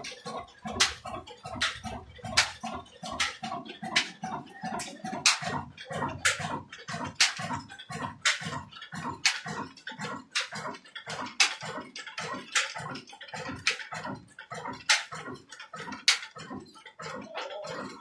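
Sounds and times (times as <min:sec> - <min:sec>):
diesel engine running slowly: 0:00.0 - 0:18.0.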